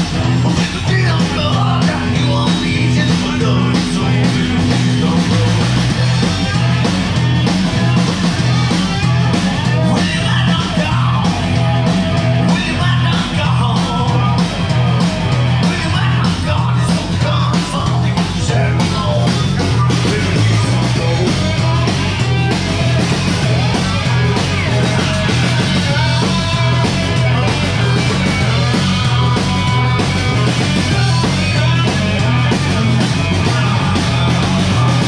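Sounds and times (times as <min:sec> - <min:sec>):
loud rock music with guitar: 0:00.0 - 0:35.0.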